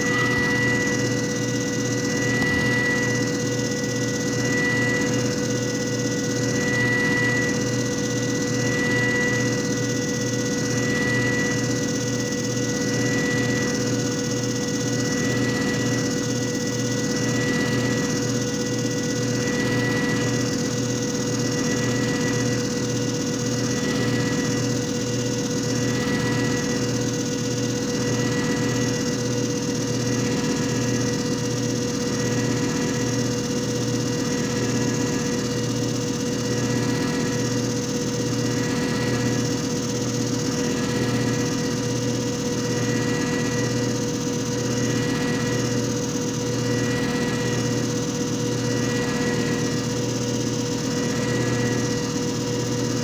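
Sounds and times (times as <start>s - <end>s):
machine motor whine and hum: 0.0s - 53.0s.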